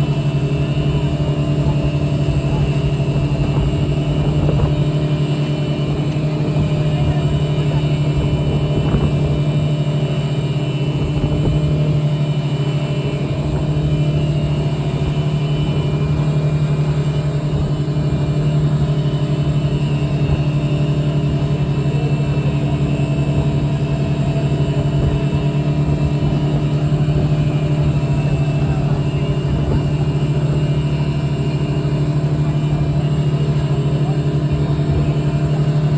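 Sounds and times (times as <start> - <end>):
motorboat engine running: 0.0 - 35.9.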